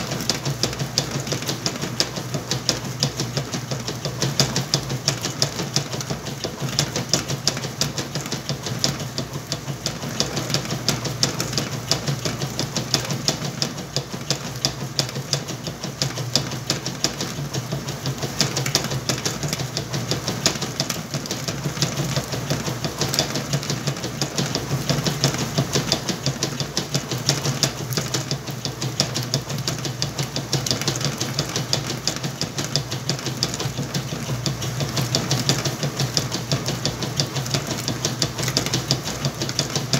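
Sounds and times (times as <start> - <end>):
fast rattling clatter: 0.0 - 39.9
washing machine motor hum: 0.0 - 39.9.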